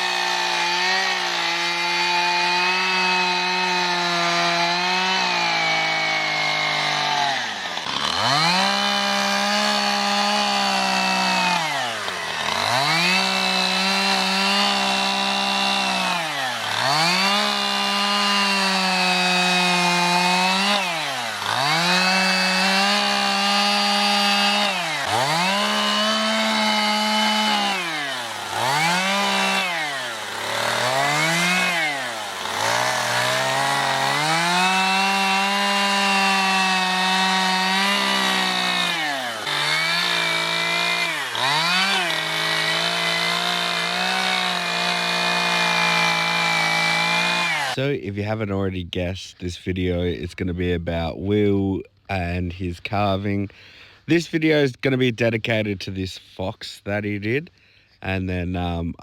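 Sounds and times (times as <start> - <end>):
chainsaw cutting wood: 0.0 - 47.8.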